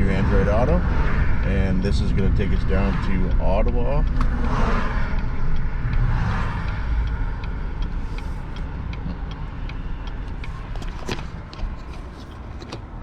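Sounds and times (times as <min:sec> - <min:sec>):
truck engine and road rumble: 0:00.0 - 0:13.0
turn signal ticking: 0:00.0 - 0:13.0.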